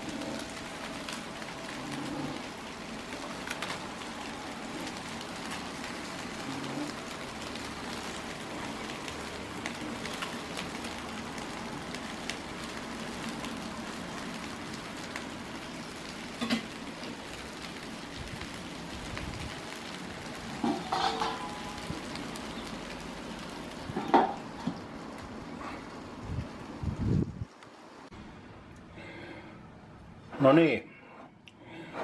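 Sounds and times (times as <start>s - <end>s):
food sizzling on a grill: 0.0s - 27.4s.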